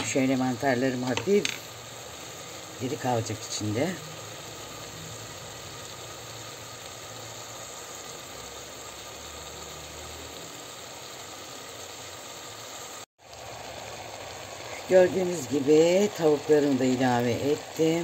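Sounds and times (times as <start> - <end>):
mushrooms and onions sizzling in a pan: 0.0 - 18.0.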